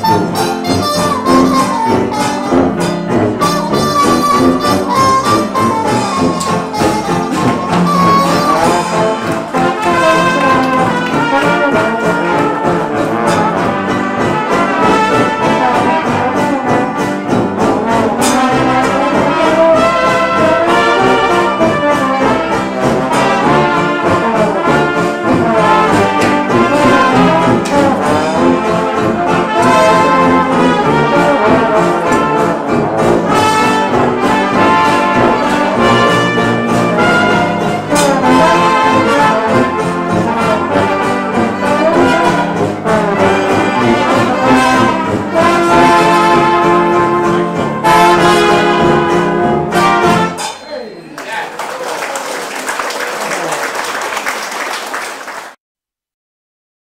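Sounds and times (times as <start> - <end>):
jazz band playing: 0.0 - 51.3.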